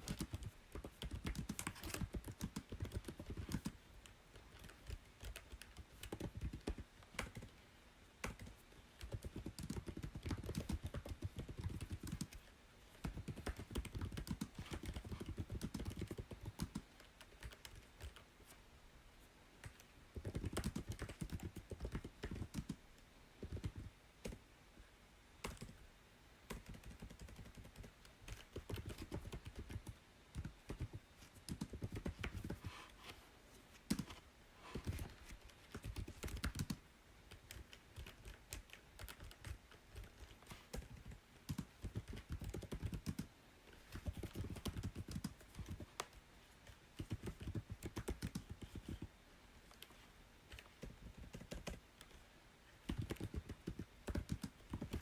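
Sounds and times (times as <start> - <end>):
typing on computer keyboard: 0.0 - 7.6, 8.2 - 18.3, 19.6 - 22.8, 23.4 - 24.4, 25.4 - 25.8, 26.5 - 32.6, 33.9 - 49.1, 50.5 - 52.2, 52.8 - 55.0.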